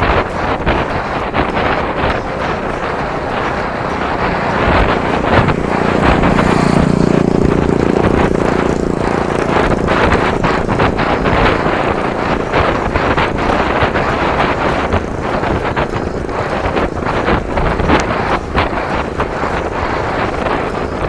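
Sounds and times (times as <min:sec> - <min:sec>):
passing vehicle engine hum: 0:00.0 - 0:21.0
wind on microphone: 0:00.0 - 0:21.0.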